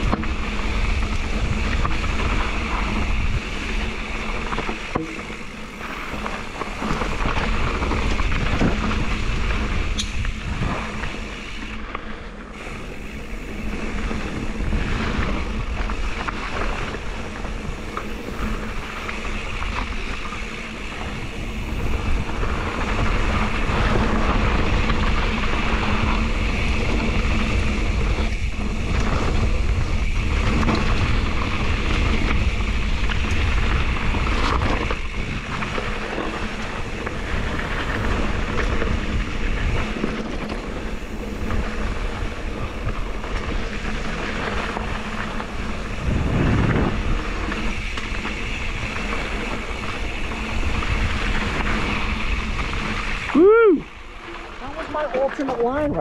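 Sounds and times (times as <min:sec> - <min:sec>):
tyres rumbling on dirt: 0:00.0 - 0:56.0
wind rush on microphone: 0:00.0 - 0:56.0.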